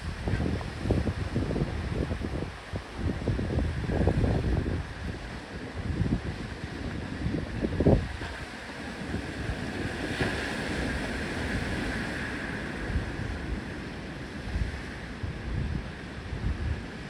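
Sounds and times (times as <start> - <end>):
surf washing against rocks: 0.0 - 17.0
wind rumbling on microphone: 0.0 - 17.0.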